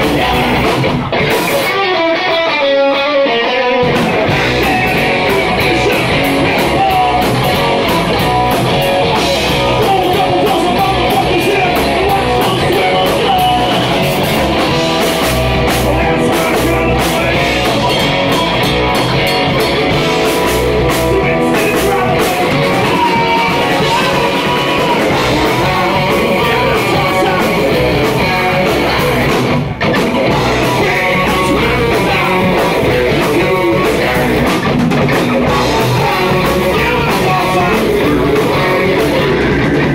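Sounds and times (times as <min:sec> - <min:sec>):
drum kit: 0:00.0 - 0:02.6, 0:03.8 - 0:39.9
person singing: 0:00.0 - 0:19.2, 0:19.9 - 0:29.4, 0:30.0 - 0:39.9
bass guitar: 0:00.0 - 0:39.9
electric guitars: 0:00.0 - 0:39.9.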